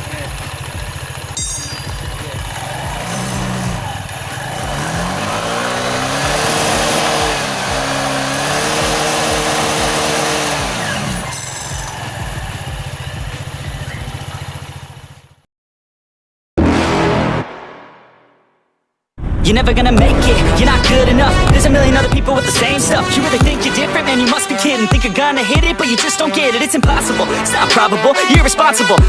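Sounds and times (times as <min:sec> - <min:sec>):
scooter engine revving and idling: 0:00.0 - 0:15.4, 0:20.0 - 0:29.0.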